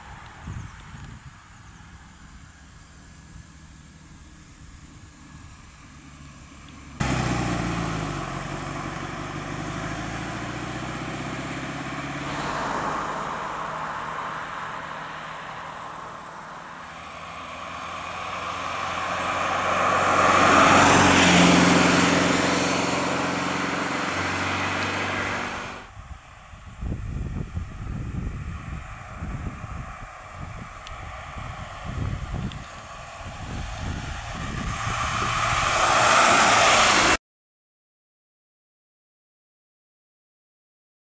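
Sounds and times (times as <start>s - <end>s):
sports car engine passing: 1.4s - 37.2s.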